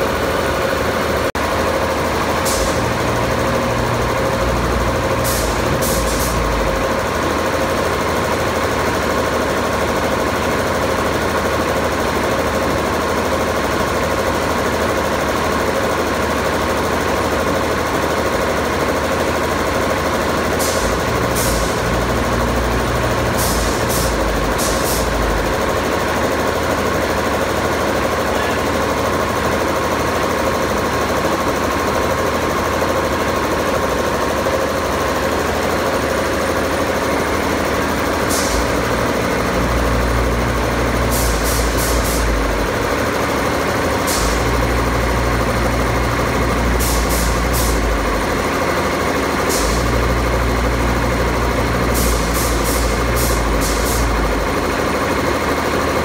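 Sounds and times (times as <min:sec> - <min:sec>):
compressor running: 0:00.0 - 0:56.0.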